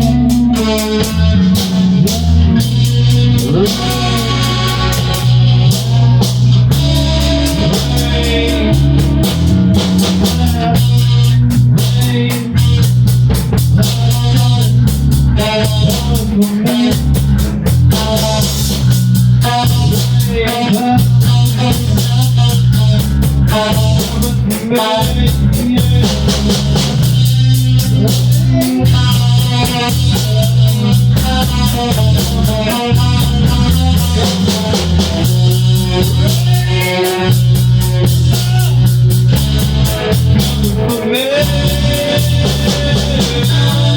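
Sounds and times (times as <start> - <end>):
bass guitar: 0.0 - 43.9
drum kit beat: 0.0 - 43.9
electric guitar: 0.0 - 43.9.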